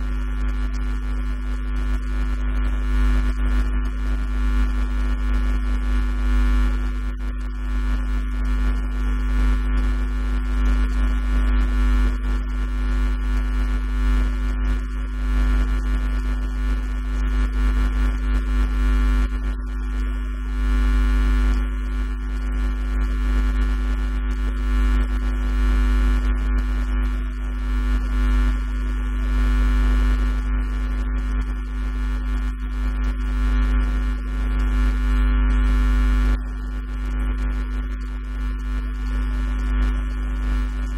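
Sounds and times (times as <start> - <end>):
electrical mains hum: 0.0 - 1.1, 1.7 - 40.9.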